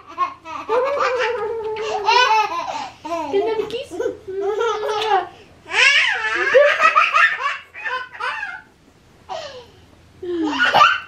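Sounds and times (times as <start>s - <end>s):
baby laughing: 0.0s - 8.7s, 10.4s - 11.0s.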